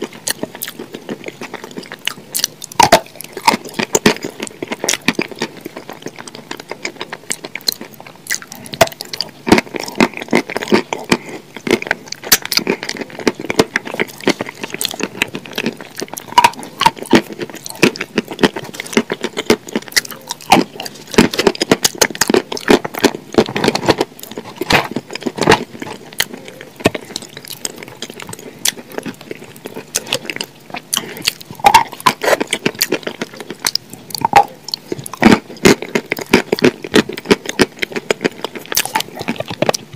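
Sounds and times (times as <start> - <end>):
crunchy chewing: 0.0 - 39.9
wet mouth sounds: 0.0 - 39.9.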